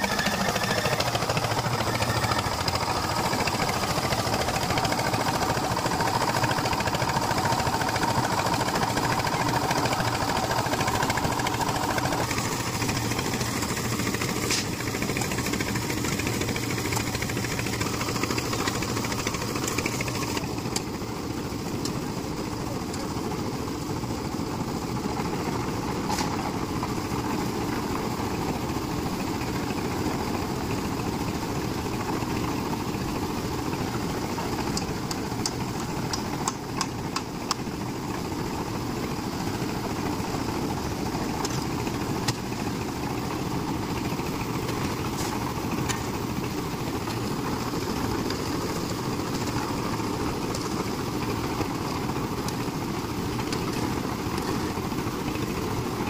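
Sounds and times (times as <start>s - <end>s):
concrete mixer engine running: 0.0s - 56.0s.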